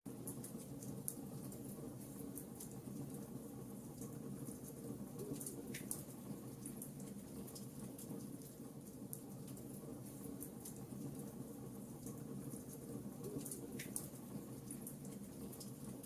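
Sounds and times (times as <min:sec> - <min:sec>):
wood fire crackling: 0:00.2 - 0:16.0.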